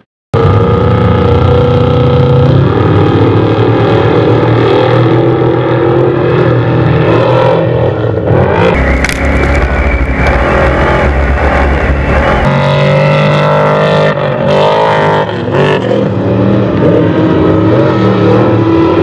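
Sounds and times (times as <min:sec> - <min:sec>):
truck engine running loud: 0:00.0 - 0:19.0.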